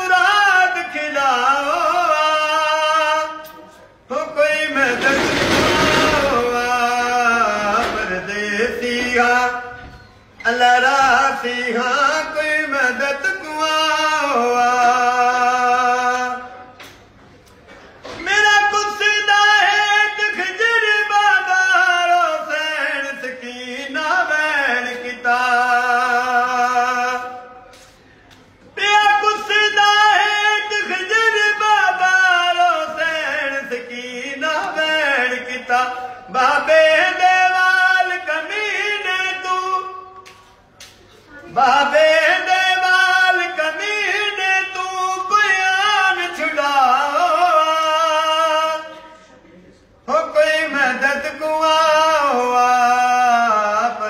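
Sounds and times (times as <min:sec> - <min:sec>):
man singing unaccompanied lament: 0:00.0 - 0:16.7, 0:18.1 - 0:27.7, 0:28.7 - 0:40.2, 0:41.4 - 0:49.1, 0:50.0 - 0:54.0.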